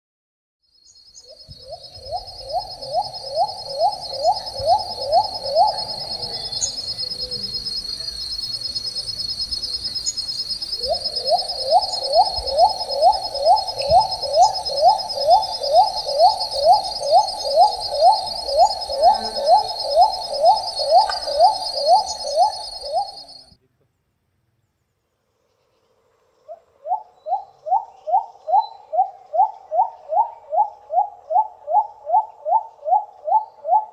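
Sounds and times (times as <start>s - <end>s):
insects trilling: 0.6s - 23.6s, 25.3s - 33.9s
dove hooting calls: 1.2s - 23.5s, 26.5s - 33.9s.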